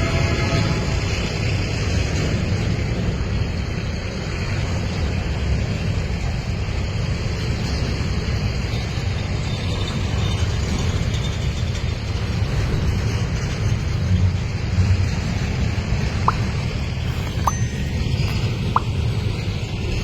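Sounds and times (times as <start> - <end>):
diesel locomotive engines rumbling: 0.0 - 20.0.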